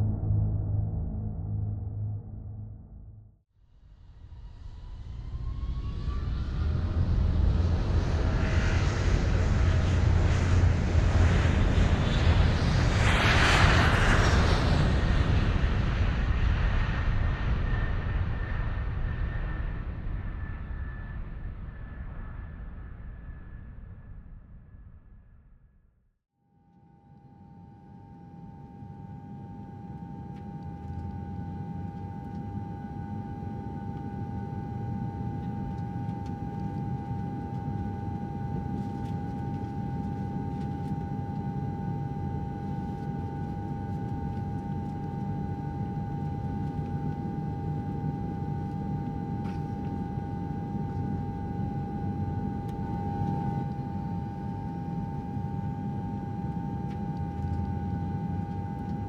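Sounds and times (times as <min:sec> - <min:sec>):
aircraft engine drone: 0:00.0 - 0:03.2, 0:04.3 - 0:24.1, 0:26.6 - 0:59.0.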